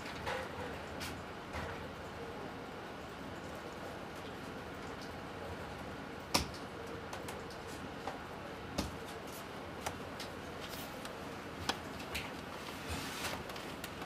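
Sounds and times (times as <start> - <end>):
computers humming: 0.0 - 14.0.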